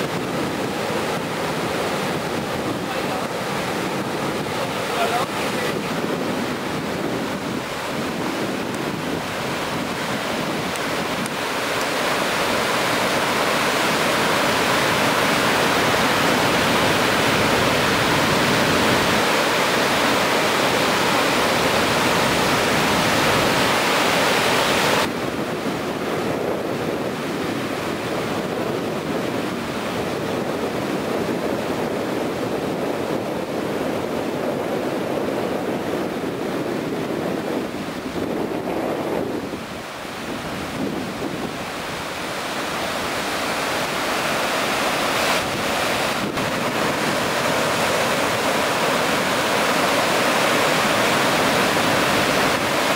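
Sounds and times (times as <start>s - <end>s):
ocean surf breaking: 0.0s - 52.9s
wind buffeting microphone: 0.0s - 52.9s.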